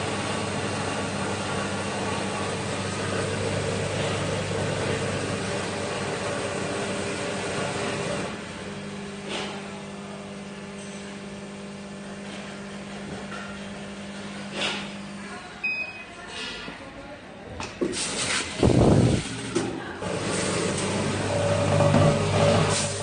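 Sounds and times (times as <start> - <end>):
packing machine humming: 0.0 - 15.4, 18.0 - 23.0.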